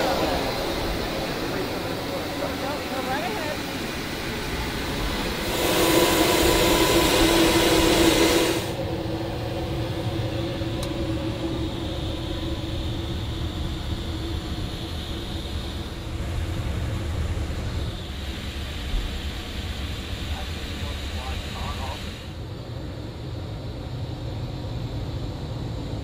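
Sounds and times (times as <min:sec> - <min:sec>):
faint high whine: 0:00.0 - 0:26.0
jet engine rush and hum: 0:00.0 - 0:26.0.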